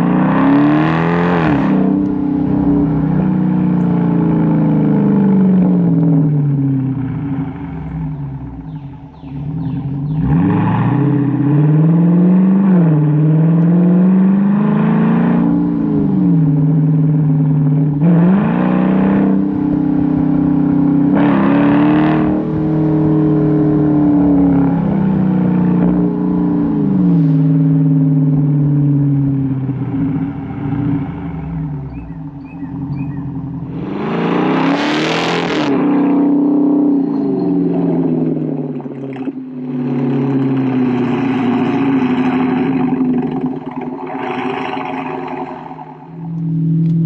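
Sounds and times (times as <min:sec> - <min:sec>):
car exhaust revving: 0:00.0 - 0:47.0.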